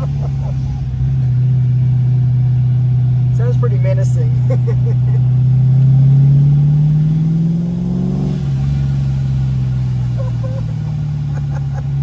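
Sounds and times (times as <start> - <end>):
supercharged car engine accelerating: 0.0 - 12.0.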